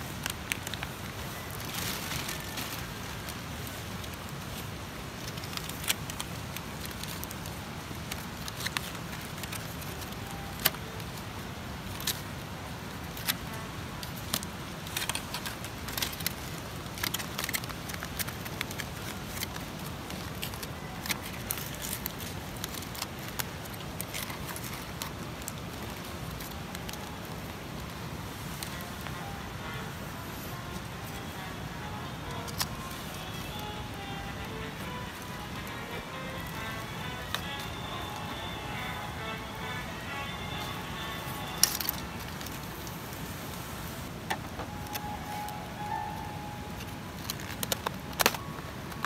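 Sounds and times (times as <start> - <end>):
campfire crackling and popping: 0.0 - 49.0
low hiss: 0.0 - 49.0.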